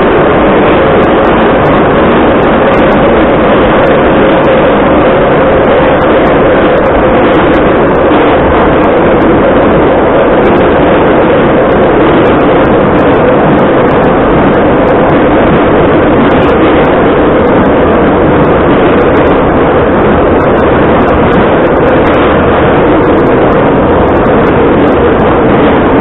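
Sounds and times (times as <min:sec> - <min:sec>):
steady hum: 0:00.0 - 0:26.0
train wheels roaring: 0:00.0 - 0:26.0.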